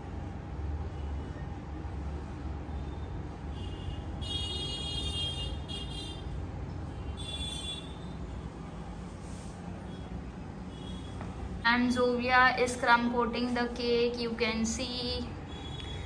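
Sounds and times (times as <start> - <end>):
low background hum and rumble: 0.0 - 16.0.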